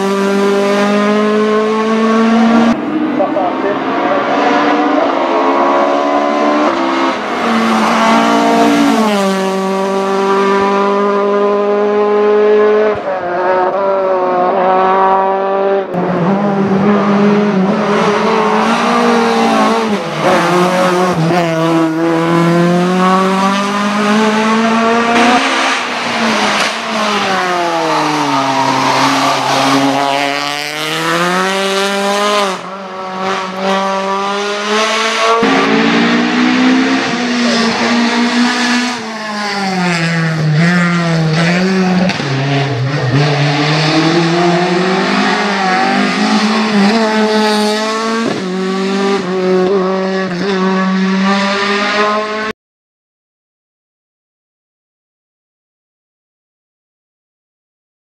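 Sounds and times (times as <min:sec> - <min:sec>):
racing engine revving: 0:00.0 - 0:52.5.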